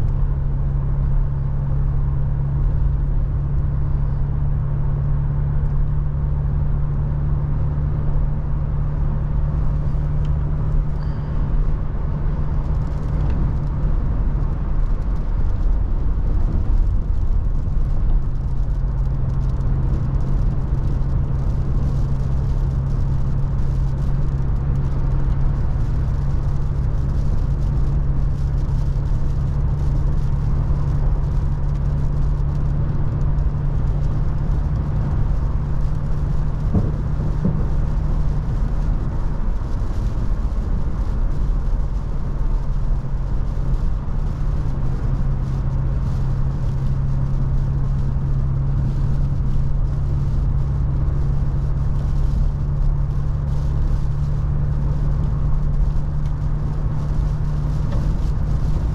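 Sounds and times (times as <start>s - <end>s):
car engine drone: 0.0s - 58.9s
wind and tyre noise: 0.0s - 58.9s.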